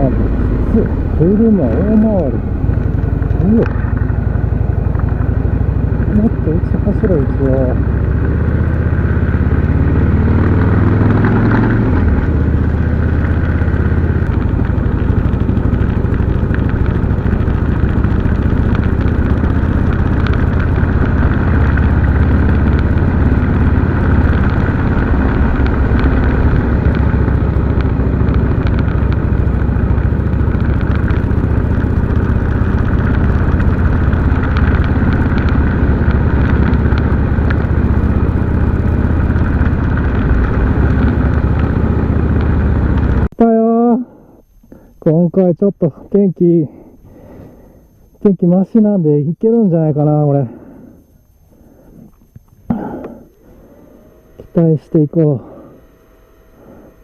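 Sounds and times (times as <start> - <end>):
motorcycle engine running: 0.0 - 44.1, 49.4 - 57.0.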